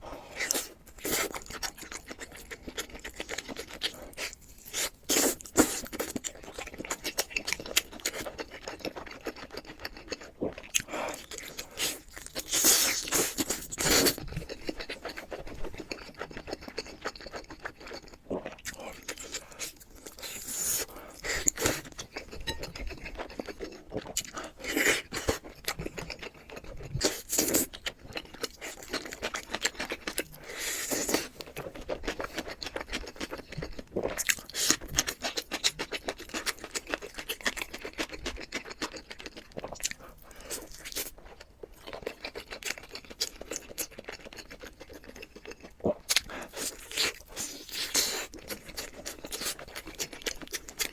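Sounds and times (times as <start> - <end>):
wet chewing: 0.4 - 50.9.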